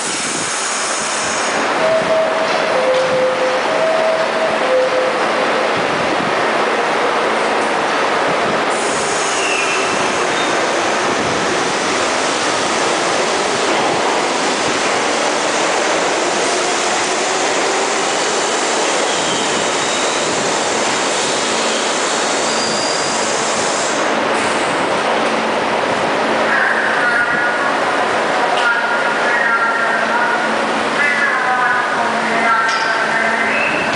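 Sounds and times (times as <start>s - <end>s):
subway train rolling rumble: 0.0s - 33.9s.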